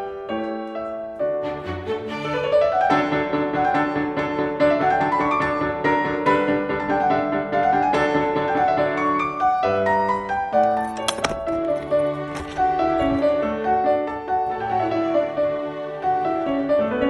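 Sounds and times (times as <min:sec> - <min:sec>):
piano music with quick runs: 0:00.0 - 0:17.0.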